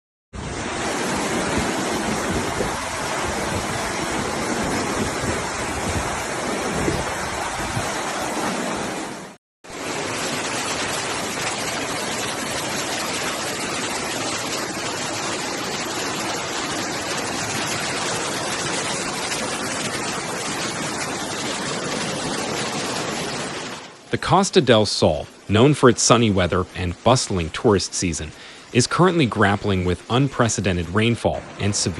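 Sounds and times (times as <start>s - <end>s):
floodwater roaring: 0.4s - 31.9s.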